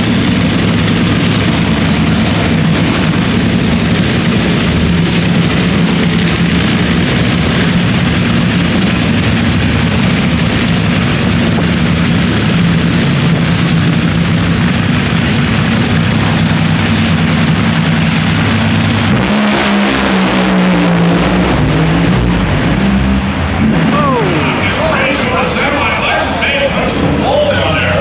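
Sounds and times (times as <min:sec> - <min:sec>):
drag racing engines roaring: 0:00.0 - 0:28.0
shifting pitched tones: 0:00.0 - 0:28.0.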